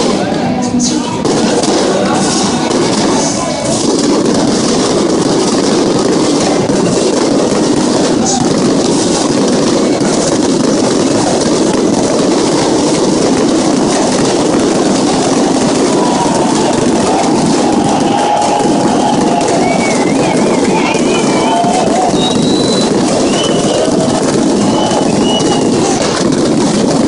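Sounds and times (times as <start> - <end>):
fireworks crackling: 0.0 - 27.0
stadium crowd noise: 0.0 - 27.0.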